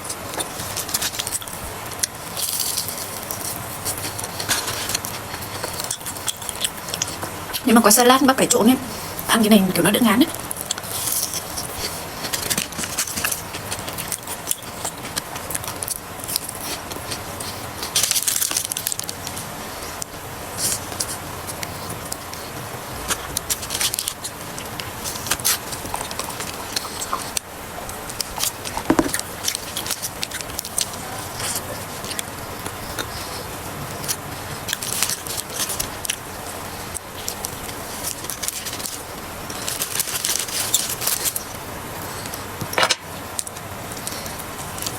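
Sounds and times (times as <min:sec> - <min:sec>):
crunching and chewing food: 0:00.0 - 0:07.7, 0:10.3 - 0:44.9.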